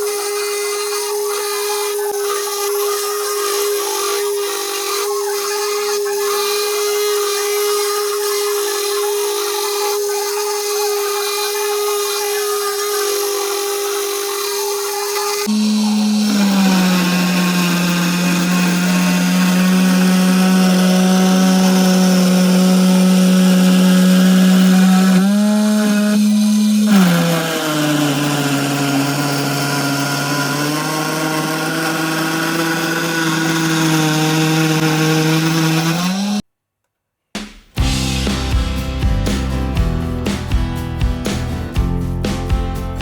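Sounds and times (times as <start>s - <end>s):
power tool motor whine: 0.0s - 36.4s.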